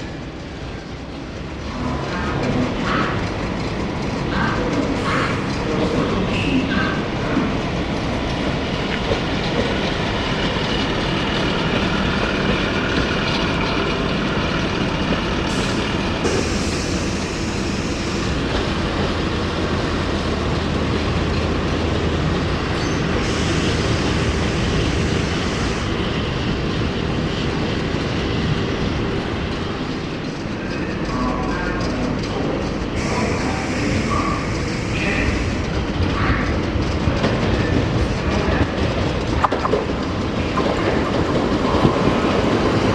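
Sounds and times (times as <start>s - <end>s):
train rumbling on rails: 0.0s - 42.9s.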